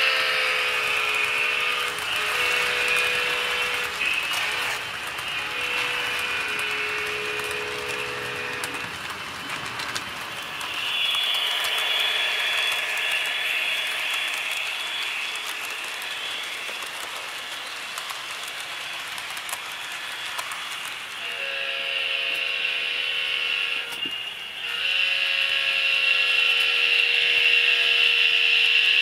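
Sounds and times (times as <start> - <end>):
electronic diesel locomotive sound: 0.0 - 29.0
model train wheels clicking: 0.0 - 29.0.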